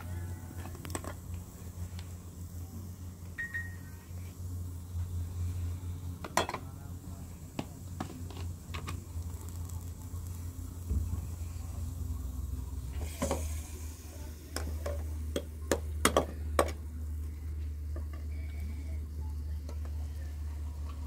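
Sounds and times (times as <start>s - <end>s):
onions frying in oil: 0.0s - 21.0s
steady low hum: 0.0s - 21.0s.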